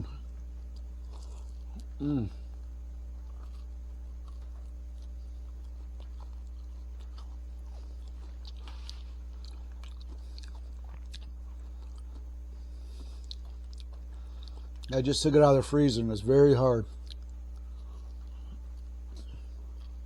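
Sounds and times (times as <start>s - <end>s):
chewing frozen ice cream bar: 0.0s - 20.0s
low electrical hum: 0.0s - 20.0s.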